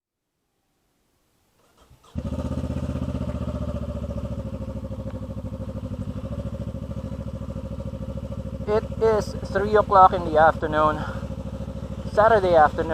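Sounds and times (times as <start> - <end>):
motorcycle engine running: 2.0 - 12.9.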